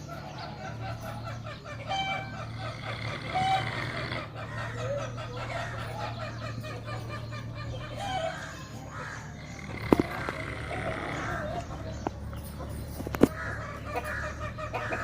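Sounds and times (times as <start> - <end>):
bird clucking calls: 0.0 - 15.0.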